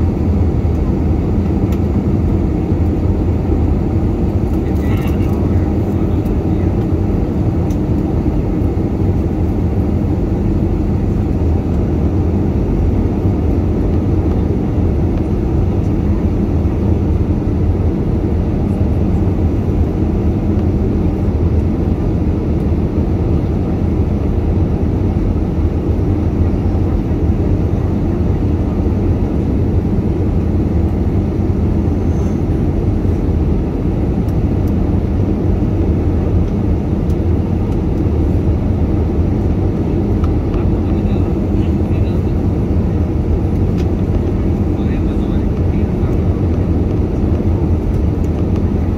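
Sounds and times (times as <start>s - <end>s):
jet engine and airflow rumble: 0.0s - 48.9s.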